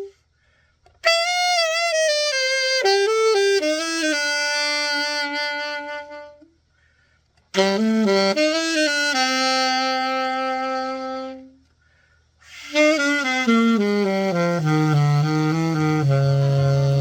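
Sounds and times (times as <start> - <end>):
solo alto saxophone: 0.0 - 0.3, 0.9 - 17.0.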